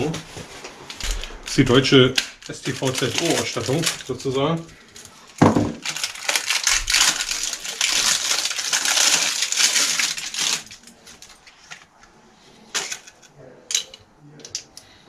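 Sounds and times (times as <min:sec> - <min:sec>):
plastic packaging crinkling: 0:00.0 - 0:12.0, 0:12.7 - 0:13.3.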